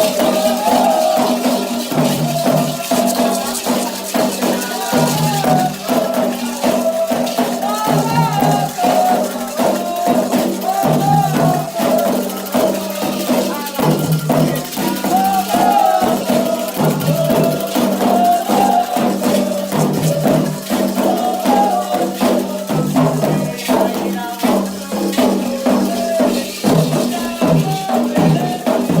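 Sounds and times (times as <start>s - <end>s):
hand drums: 0.0s - 29.0s
voices singing a chant: 0.0s - 29.0s.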